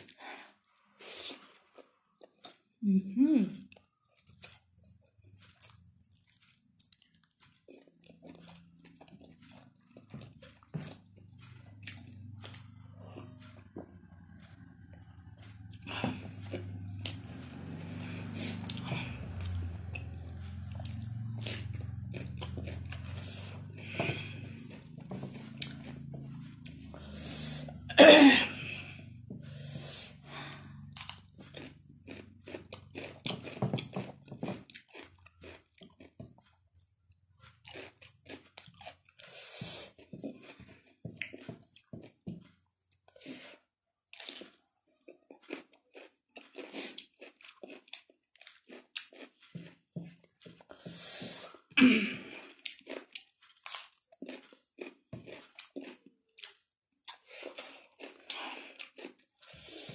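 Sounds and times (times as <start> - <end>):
chewing and crunching cucumber: 0.0 - 27.9, 28.5 - 59.9.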